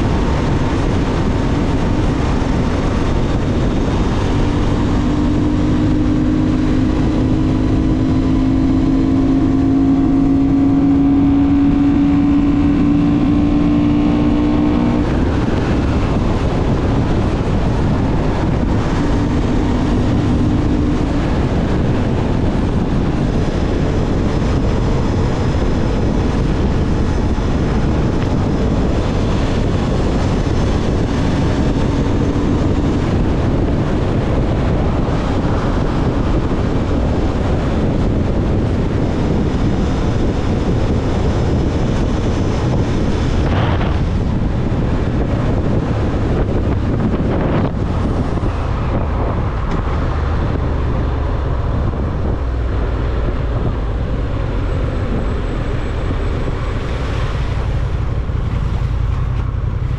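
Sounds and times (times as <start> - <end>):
motorcycle engine: 0.0 - 59.9
wind buffeting helmet microphone: 0.0 - 59.9.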